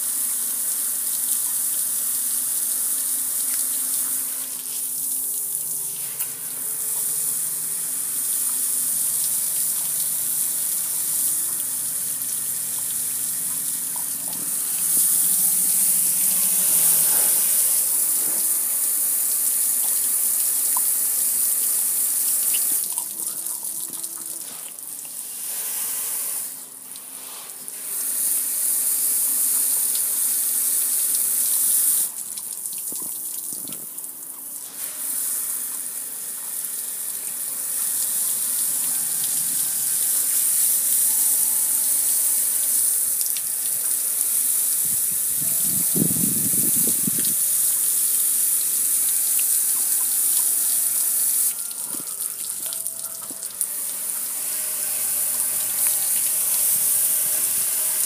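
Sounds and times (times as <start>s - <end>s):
hose spraying onto metal grill: 0.0s - 33.9s, 34.5s - 58.0s.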